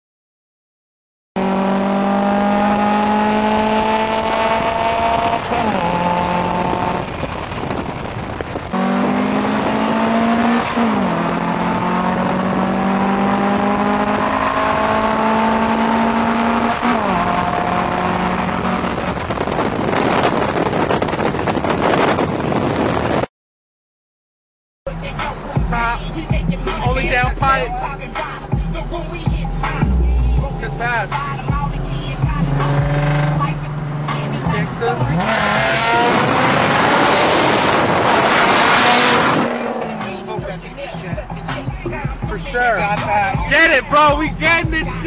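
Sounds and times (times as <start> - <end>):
car engine accelerating hard: 1.4 - 23.2, 25.0 - 45.0.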